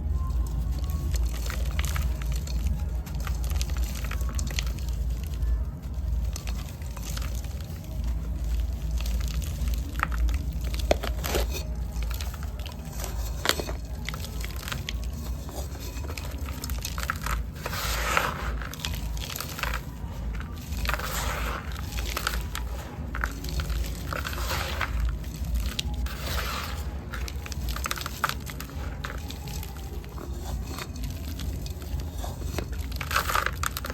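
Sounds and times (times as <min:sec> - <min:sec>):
dry clay crumbling and crunching: 0:00.0 - 0:33.9
steady low hum: 0:00.0 - 0:33.9.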